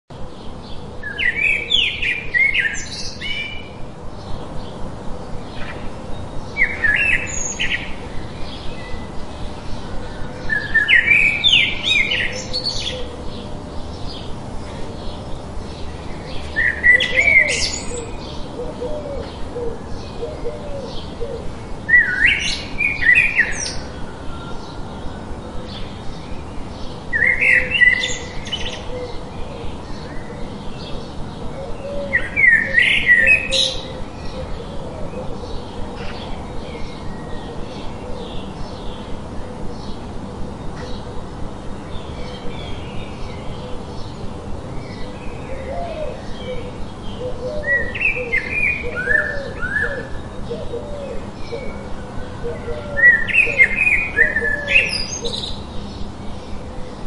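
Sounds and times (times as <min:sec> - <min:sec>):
songbird singing: 0:00.1 - 0:57.0
steady hiss: 0:00.2 - 0:52.5.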